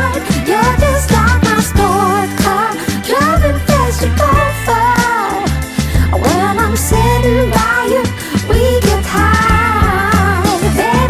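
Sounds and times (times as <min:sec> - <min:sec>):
bass line: 0:00.0 - 0:11.0
beat: 0:00.0 - 0:11.0
woman singing pop song: 0:00.0 - 0:11.0.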